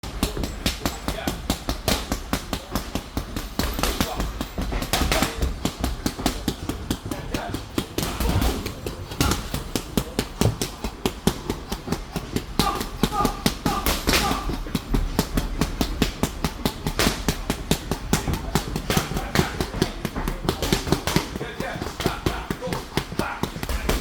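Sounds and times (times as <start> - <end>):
punches smacking padded gear: 0.0 - 24.0.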